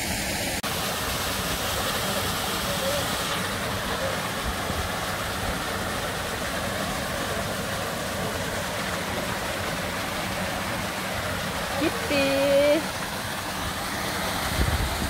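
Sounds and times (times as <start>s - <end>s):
stream and waterfall rushing: 0.0s - 15.0s.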